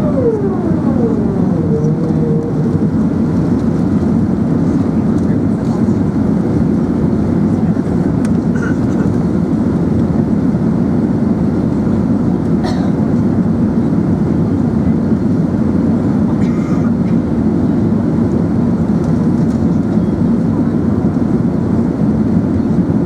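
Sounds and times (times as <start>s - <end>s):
airplane cabin engine roar: 0.0s - 23.0s.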